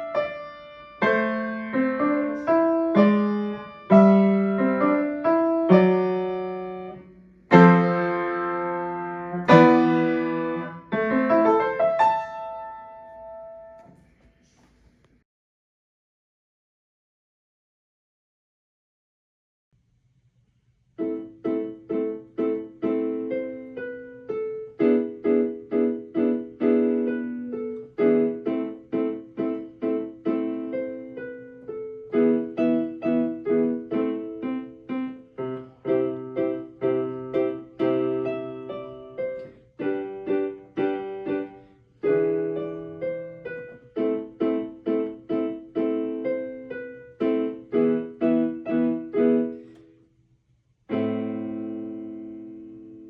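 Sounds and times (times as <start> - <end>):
piano music: 0.0 - 13.9, 21.0 - 49.8.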